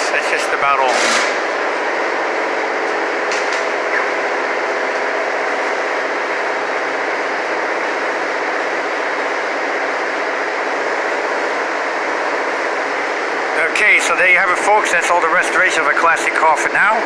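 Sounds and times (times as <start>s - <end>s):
machinery droning hum: 0.0s - 17.0s.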